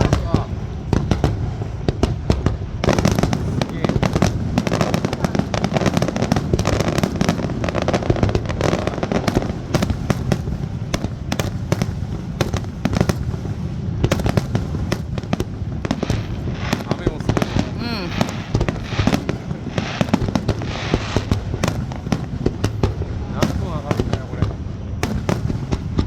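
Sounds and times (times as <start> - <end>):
fireworks bursts and crackles: 0.0 - 26.0.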